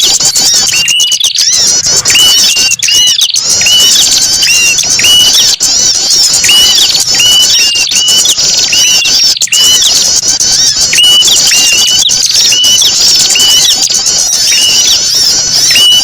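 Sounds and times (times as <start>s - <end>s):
songbirds chirping and twittering: 0.0s - 16.0s.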